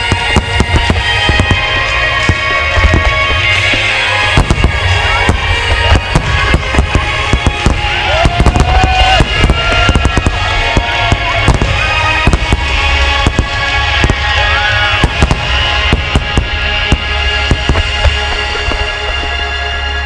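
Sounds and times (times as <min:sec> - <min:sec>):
deep rumble: 0:00.0 - 0:20.0
fireworks bursting: 0:00.0 - 0:20.0
music with singing: 0:00.0 - 0:20.0.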